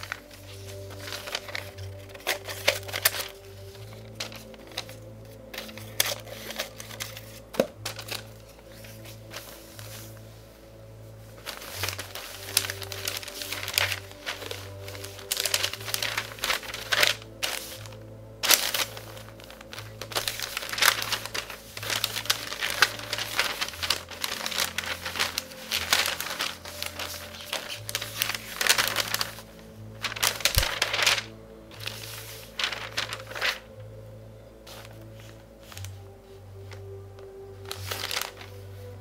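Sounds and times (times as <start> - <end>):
newspaper pages rustling: 0.0 - 39.0
soft background music: 0.0 - 39.0.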